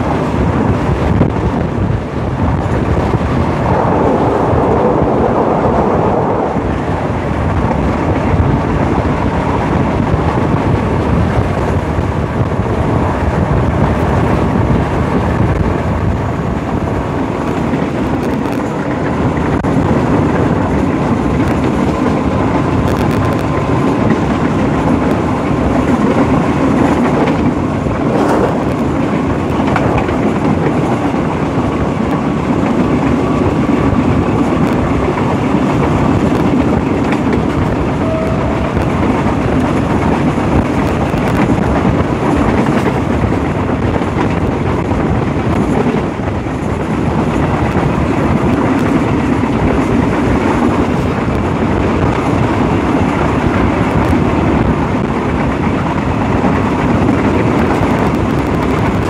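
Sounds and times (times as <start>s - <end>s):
locomotive engine drone: 0.0s - 59.0s
rushing air: 0.0s - 59.0s
train on rails: 0.0s - 59.0s.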